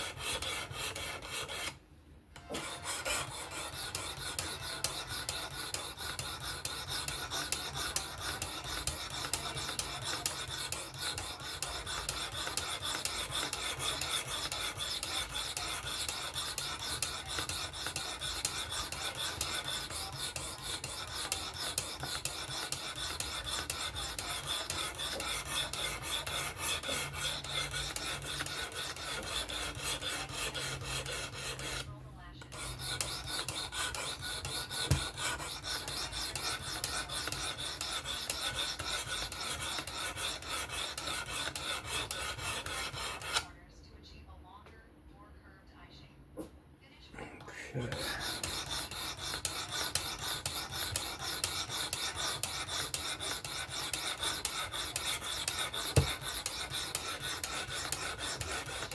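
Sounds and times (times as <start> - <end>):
knife scraping sharpening stone: 0.0 - 1.8, 2.4 - 31.9, 32.5 - 43.4, 48.0 - 58.9.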